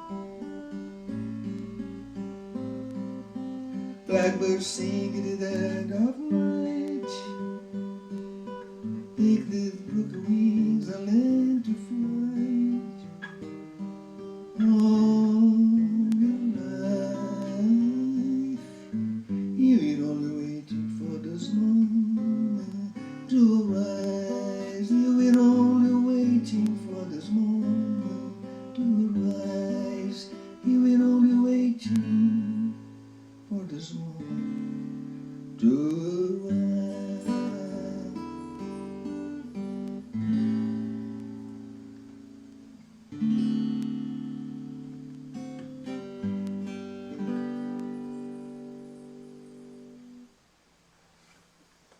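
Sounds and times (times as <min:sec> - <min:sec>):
acoustic guitar music: 0:00.0 - 0:50.4.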